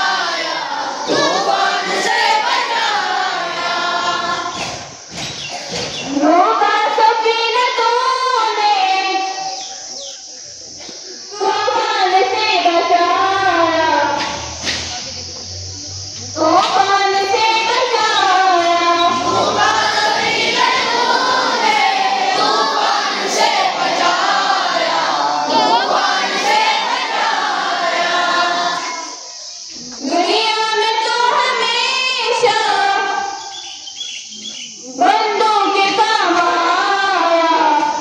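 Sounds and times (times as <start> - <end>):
children singing together: 0.0 - 9.5, 11.3 - 14.4, 16.6 - 29.4, 30.0 - 33.8, 34.7 - 38.0.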